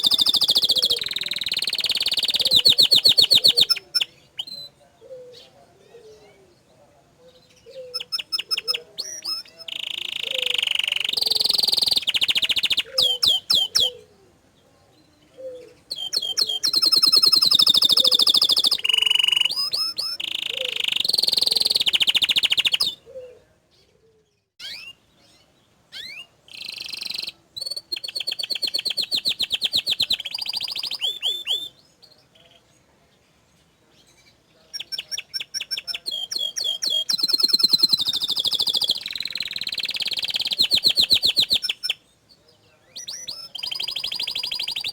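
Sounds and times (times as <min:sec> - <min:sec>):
canary singing trills: 0:00.0 - 0:44.9.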